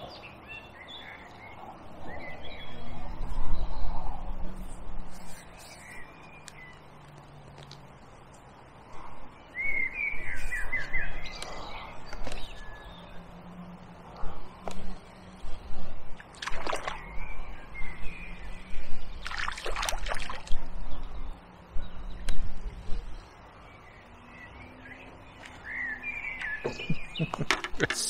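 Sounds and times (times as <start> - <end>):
birds calling faintly: 0.0 - 28.0.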